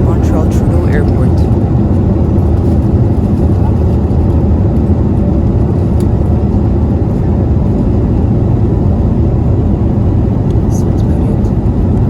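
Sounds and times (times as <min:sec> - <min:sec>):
aircraft engine and airflow rumble: 0:00.0 - 0:12.0.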